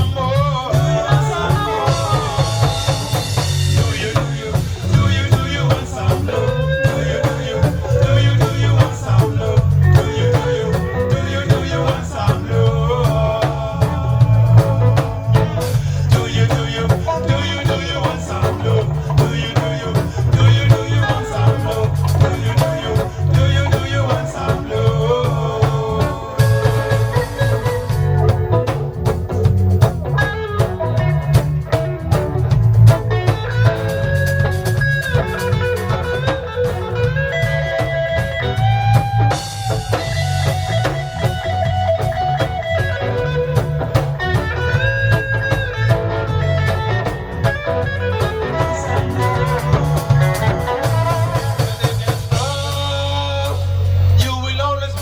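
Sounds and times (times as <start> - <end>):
guitar melody: 0.0 - 54.2
bass line: 0.0 - 55.0
drum kit: 0.0 - 55.0.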